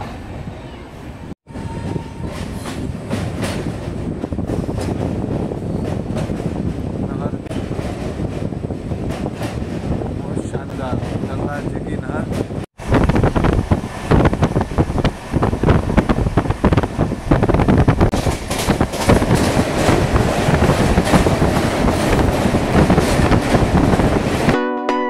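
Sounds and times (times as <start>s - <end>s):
train wheels clickety-clack: 1.8s - 24.6s.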